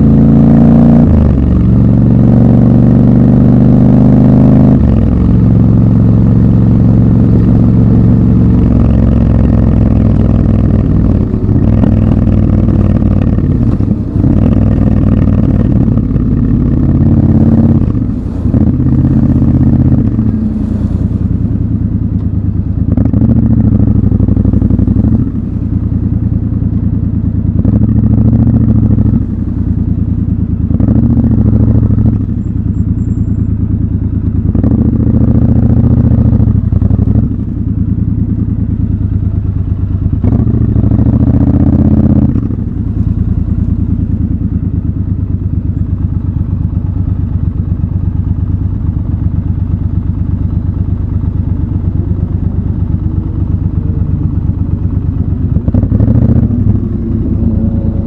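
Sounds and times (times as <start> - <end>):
motorcycle engine revving: 0.0 - 58.0
motorcycle engine idling: 5.0 - 58.0.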